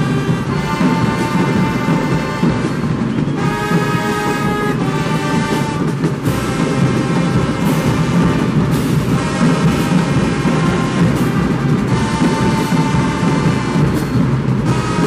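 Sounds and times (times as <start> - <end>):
bass drums pounding: 0.0 - 15.0
brass section chords: 0.0 - 15.0
cymbal crashes: 0.0 - 15.0.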